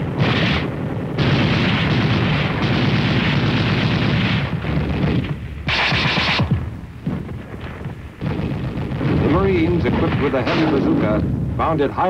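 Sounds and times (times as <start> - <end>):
gunfire: 0.0 - 11.2
explosions: 0.0 - 12.0.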